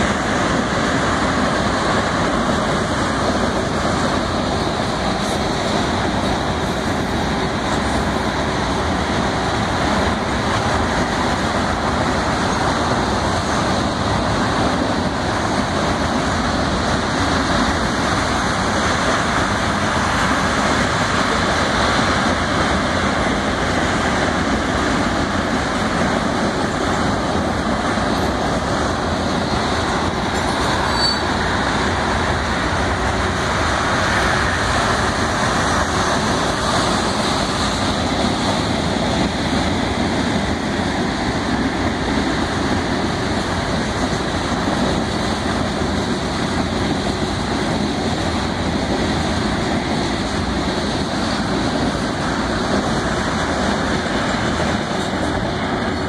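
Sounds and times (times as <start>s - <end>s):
steel train wheels rolling: 0.0s - 56.0s.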